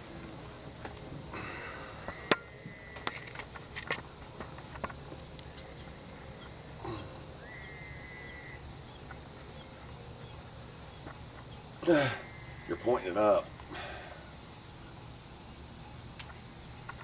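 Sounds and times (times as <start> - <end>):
low outdoor background: 0.0 - 17.0.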